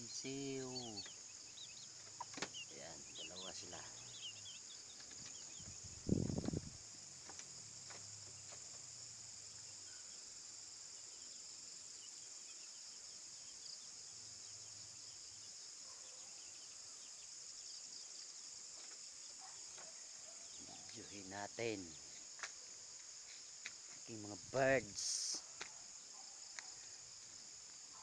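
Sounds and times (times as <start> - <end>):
crickets and night insects chirping: 0.0 - 28.0.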